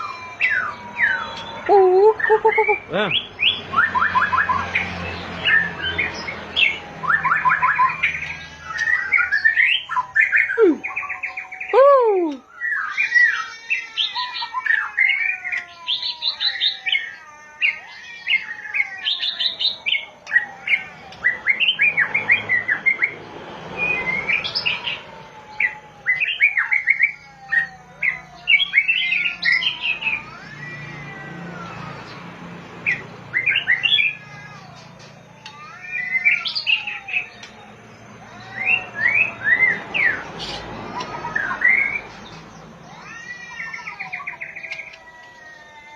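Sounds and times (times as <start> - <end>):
songbird singing: 0.0 - 45.8.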